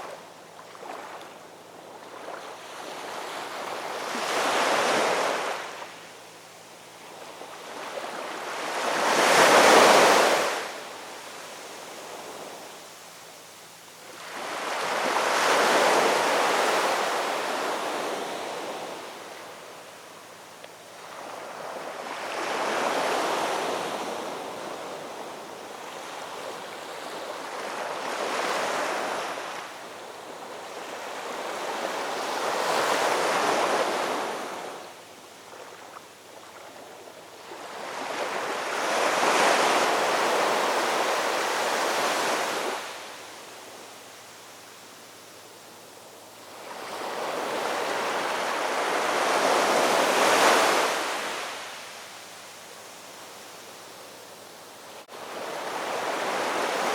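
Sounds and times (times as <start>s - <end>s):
ocean waves breaking on shore: 0.0s - 6.0s, 7.0s - 12.7s, 14.0s - 20.1s, 20.9s - 56.9s.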